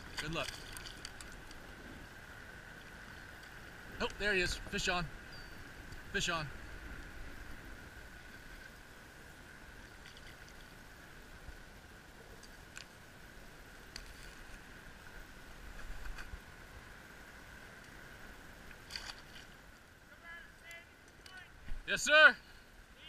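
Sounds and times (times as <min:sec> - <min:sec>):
faint high whine: 0:00.0 - 0:23.0
water and wind noise: 0:00.0 - 0:23.0.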